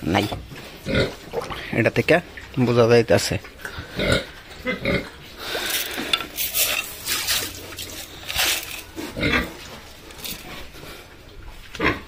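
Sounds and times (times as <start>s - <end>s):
pigs grunting: 0.2s - 1.8s, 3.5s - 12.0s.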